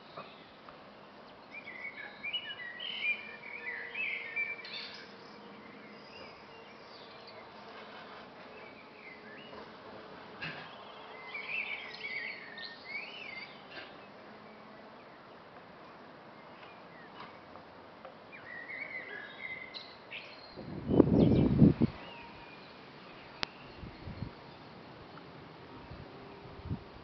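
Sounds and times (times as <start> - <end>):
birds chirping song: 0.0 - 26.9.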